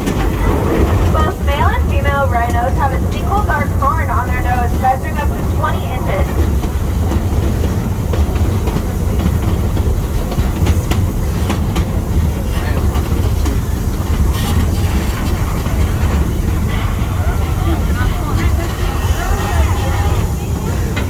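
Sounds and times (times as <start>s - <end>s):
train low rumble: 0.0s - 21.0s
train wheels clicking: 0.0s - 21.0s.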